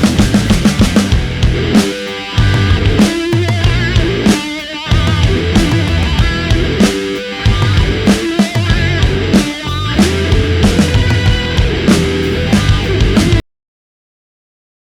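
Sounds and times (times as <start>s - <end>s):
rock music with drums and guitar: 0.0s - 13.4s.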